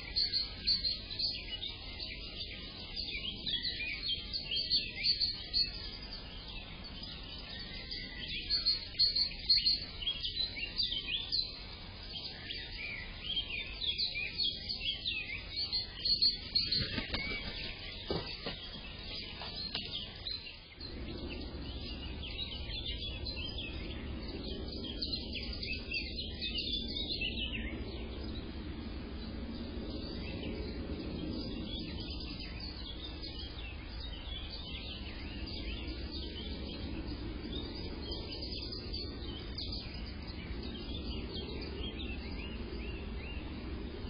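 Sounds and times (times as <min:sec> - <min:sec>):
low background rumble: 0:00.0 - 0:44.0
small birds chirping: 0:00.0 - 0:44.0.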